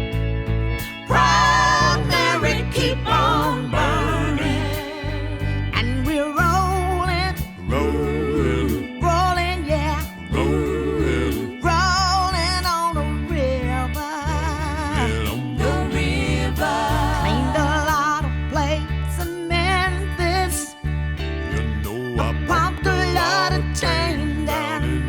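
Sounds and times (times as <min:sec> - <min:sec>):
song with singing voice and beat: 0:00.8 - 0:25.0.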